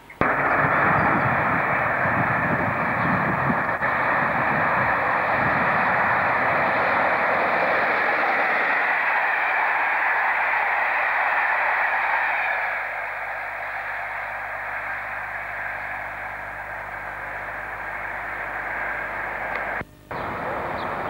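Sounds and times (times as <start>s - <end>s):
diesel locomotive passing: 0.2s - 21.0s.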